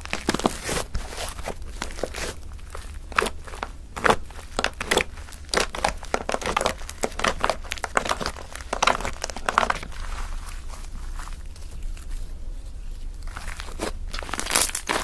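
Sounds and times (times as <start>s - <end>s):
slime crackling and popping: 0.0s - 12.1s, 12.8s - 15.0s.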